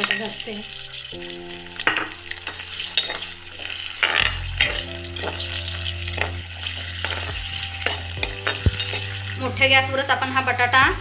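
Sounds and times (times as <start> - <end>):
spatula scraping pan: 0.0 - 9.4
potatoes sizzling in hot oil: 0.0 - 11.0.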